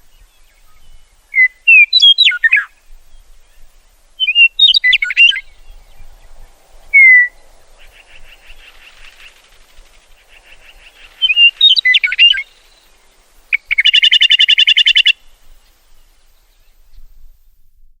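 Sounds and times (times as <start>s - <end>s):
meadowlark singing: 0.0s - 17.9s.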